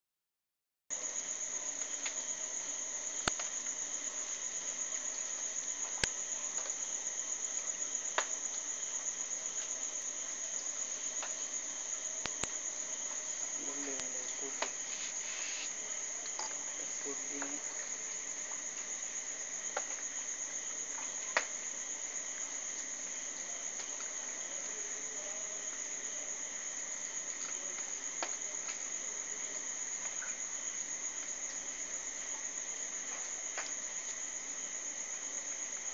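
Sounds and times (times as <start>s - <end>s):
crickets trilling: 0.9s - 35.9s.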